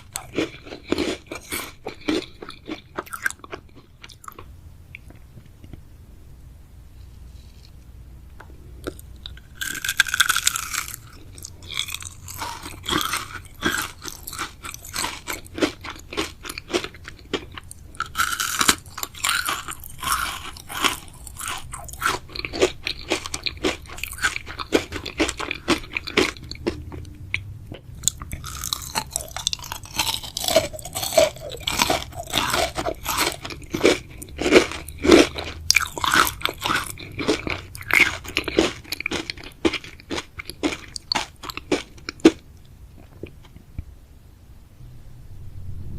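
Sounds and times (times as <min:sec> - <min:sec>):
crunchy bites: 0:00.0 - 0:05.1, 0:08.8 - 0:42.4
chewing gummy sweets: 0:00.0 - 0:05.8, 0:08.4 - 0:43.8.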